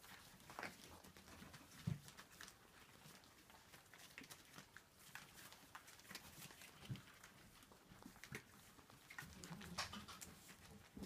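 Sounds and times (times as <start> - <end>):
puppies eating and lapping: 0.0 - 11.0.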